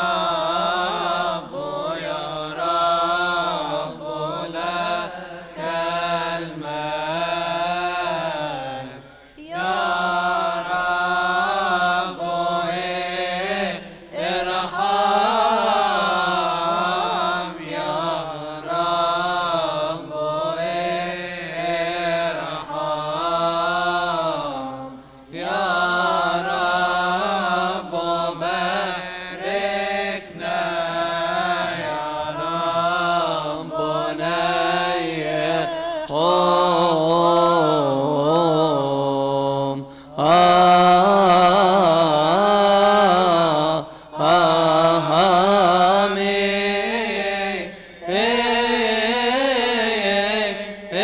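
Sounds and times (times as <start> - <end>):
voices chanting a hymn: 0.0 - 51.0.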